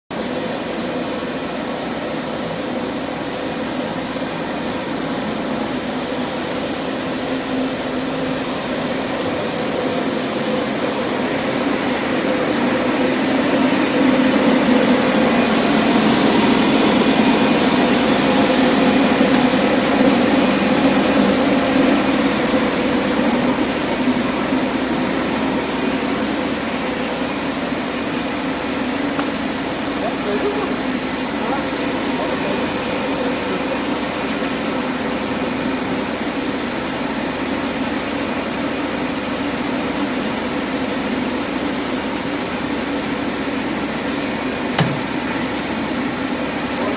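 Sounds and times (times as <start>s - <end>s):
machinery hum: 0.2s - 46.9s.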